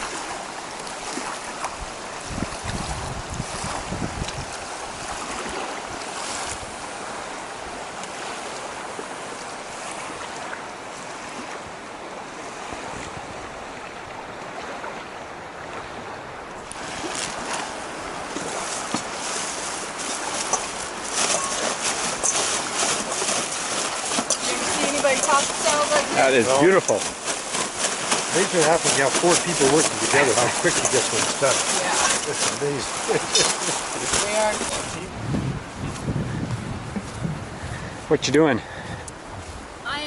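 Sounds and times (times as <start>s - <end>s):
water splashing: 0.0s - 11.7s, 12.3s - 35.5s
river water rushing: 0.0s - 35.8s, 38.0s - 40.0s.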